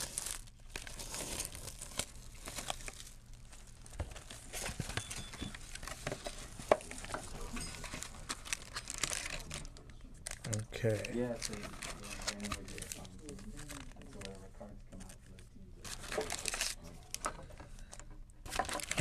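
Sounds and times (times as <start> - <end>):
box rustling: 0.0 - 9.7, 10.3 - 14.3, 15.8 - 17.8, 18.5 - 19.0
plastic shrink-wrap crinkling and tearing: 0.0 - 19.0.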